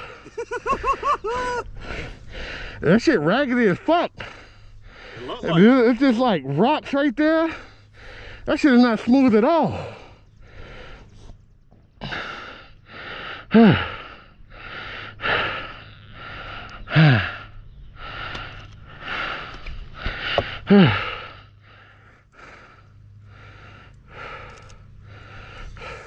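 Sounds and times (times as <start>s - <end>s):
person breathing hard: 0.0s - 2.8s, 4.1s - 5.5s, 7.4s - 8.5s, 9.6s - 26.0s.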